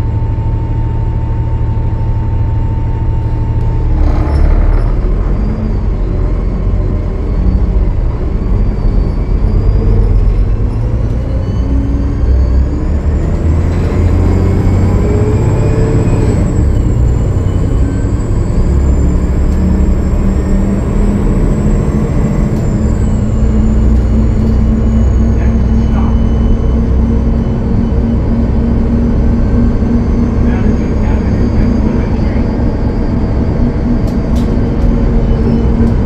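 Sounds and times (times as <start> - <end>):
diesel bus engine rumble: 0.0 - 36.0
high turbocharger whine: 0.0 - 36.0.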